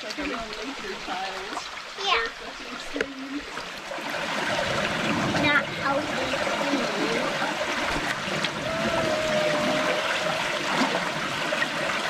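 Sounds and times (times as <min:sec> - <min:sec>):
water running over rocks: 0:00.0 - 0:12.0.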